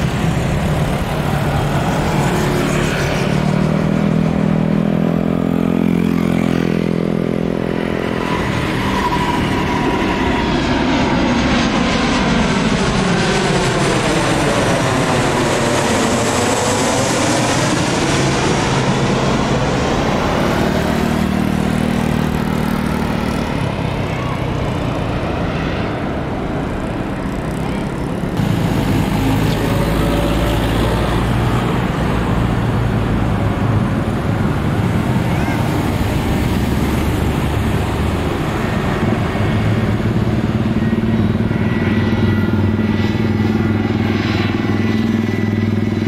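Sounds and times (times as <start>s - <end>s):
jet airliner passing overhead: 0.0s - 46.0s.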